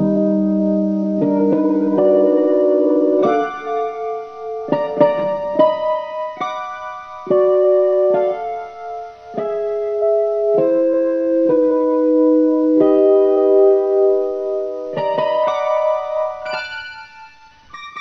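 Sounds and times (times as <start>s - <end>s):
slow piano-like keyboard music: 0.0s - 18.0s.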